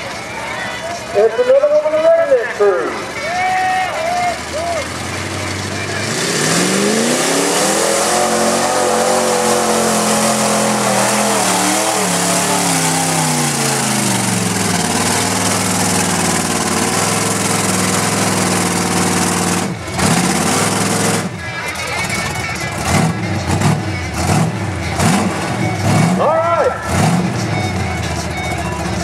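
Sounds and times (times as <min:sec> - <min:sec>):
truck engine revving hard: 0:03.9 - 0:29.0.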